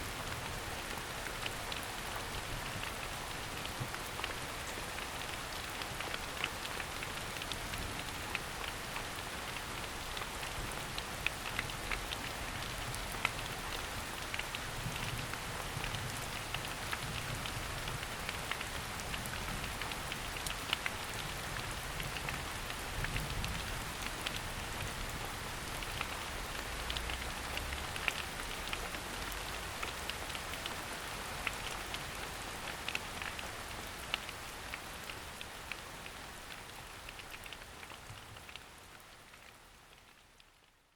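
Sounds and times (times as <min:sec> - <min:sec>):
rain pattering on leaves: 0:00.0 - 0:40.9.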